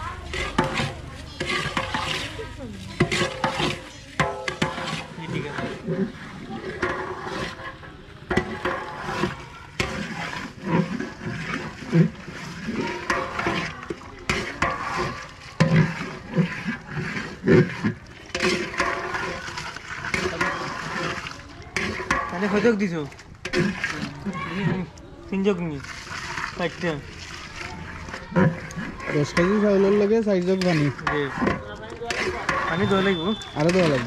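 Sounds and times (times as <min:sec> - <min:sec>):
water sloshing in cooking pot: 0:00.0 - 0:34.0
liquid pouring from jug: 0:00.3 - 0:34.0
metal paddle knocking pot: 0:03.0 - 0:06.0, 0:06.7 - 0:24.9, 0:27.9 - 0:34.0.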